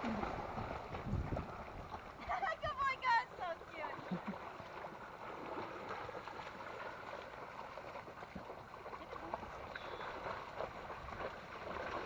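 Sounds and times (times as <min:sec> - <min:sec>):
water splashing as dogs wade: 0:00.0 - 0:12.0.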